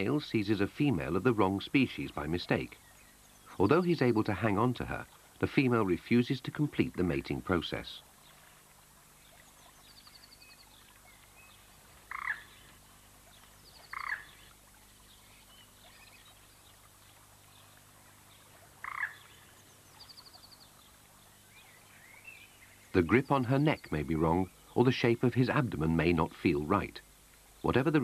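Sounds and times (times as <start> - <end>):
faint rapid bird trills: 0.0 - 28.0.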